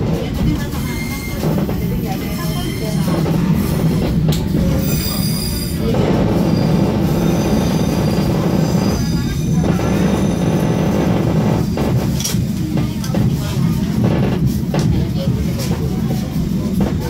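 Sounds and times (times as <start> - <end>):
wheels rumbling on track: 0.0 - 17.0.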